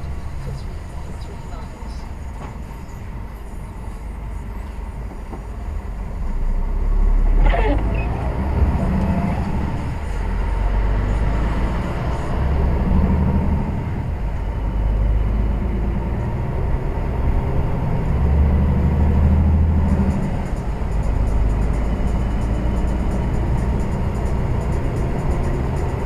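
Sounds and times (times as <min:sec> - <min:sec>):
lorry engine and road drone: 0:00.0 - 0:26.0.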